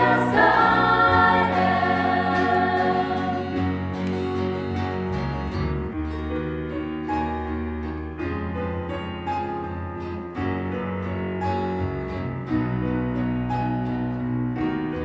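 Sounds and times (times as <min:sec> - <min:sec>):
piano playing held chords: 0:00.0 - 0:15.0.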